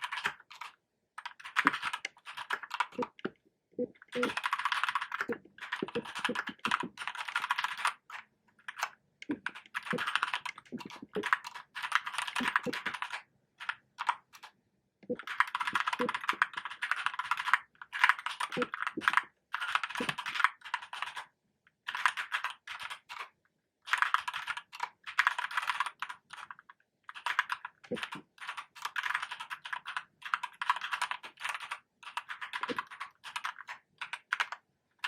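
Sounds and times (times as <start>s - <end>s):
mechanical keyboard typing: 0.0s - 34.6s.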